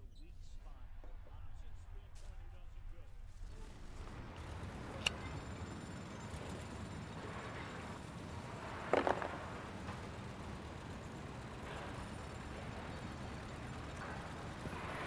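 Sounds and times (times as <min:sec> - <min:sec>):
street ambience rumble: 0:00.0 - 0:15.0.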